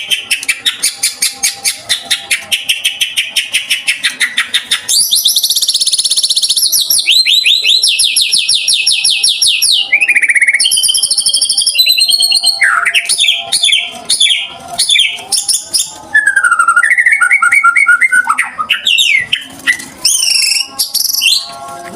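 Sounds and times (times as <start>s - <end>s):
bird singing trills and whistles: 0.0s - 21.5s.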